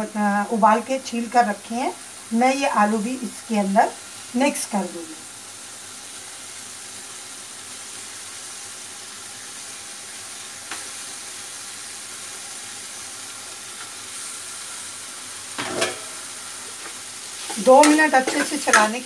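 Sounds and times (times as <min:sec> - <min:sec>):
sauce sizzling in oil: 0:00.0 - 0:19.0.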